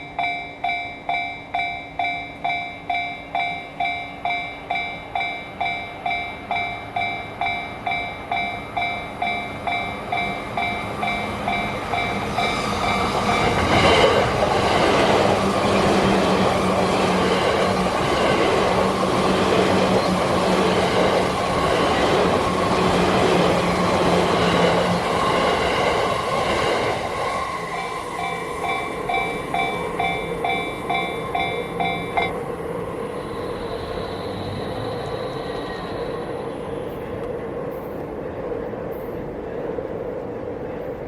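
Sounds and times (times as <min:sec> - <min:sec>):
crossing alarm clanging: 0:00.0 - 0:37.1
electric train rumbling: 0:00.0 - 0:41.0.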